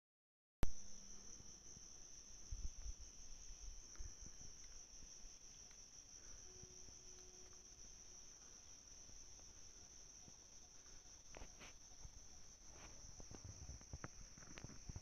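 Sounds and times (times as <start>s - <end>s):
insects trilling: 0.7s - 15.0s.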